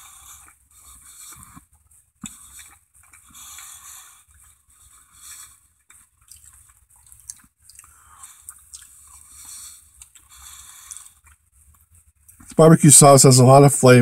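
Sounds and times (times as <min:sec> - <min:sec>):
person chewing: 0:00.0 - 0:12.5.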